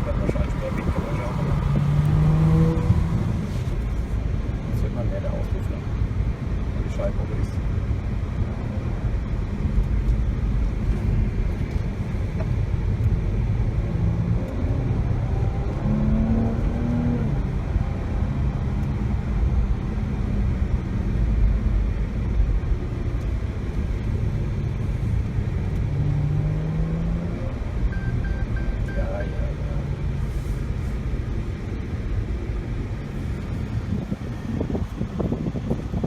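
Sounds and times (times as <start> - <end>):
car engine under load: 0.0 - 36.0
road noise rumble: 0.0 - 36.0.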